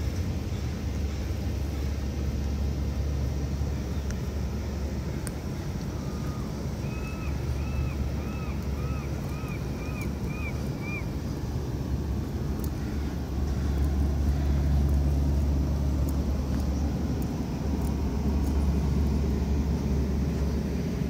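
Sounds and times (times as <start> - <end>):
car driving slowly: 0.0 - 21.0.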